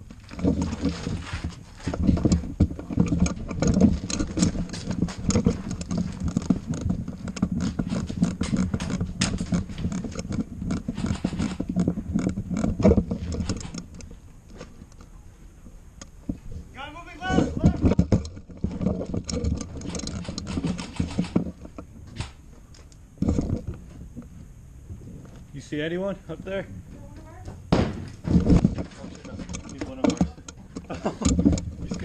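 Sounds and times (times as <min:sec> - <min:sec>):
carried gear rattling: 0:00.0 - 0:15.2, 0:16.2 - 0:22.0, 0:23.2 - 0:24.2, 0:28.1 - 0:32.0.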